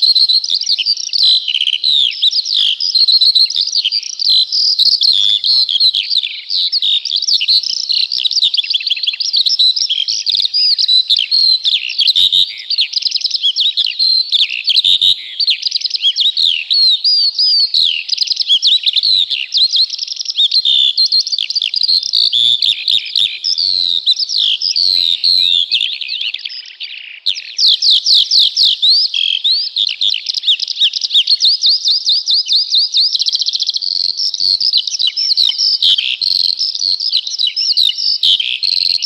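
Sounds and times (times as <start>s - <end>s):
songbirds chorus: 0.0s - 39.0s.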